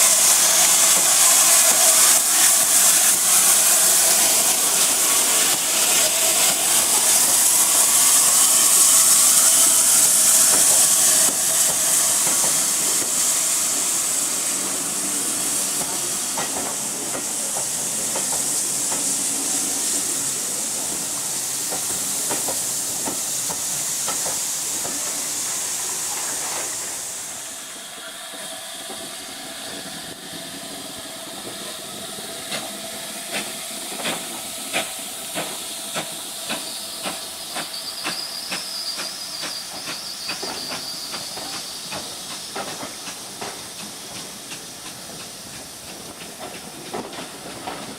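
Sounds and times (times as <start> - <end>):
steam locomotive hissing: 0.0 - 47.9.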